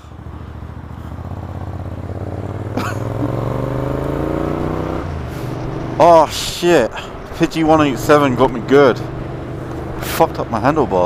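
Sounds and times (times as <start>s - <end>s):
motorcycle accelerating: 0.0s - 11.0s.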